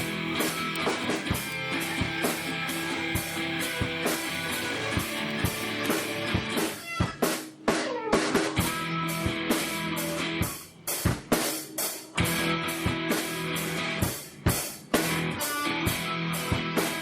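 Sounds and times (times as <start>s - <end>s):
guitar and drums music: 0.0s - 17.0s.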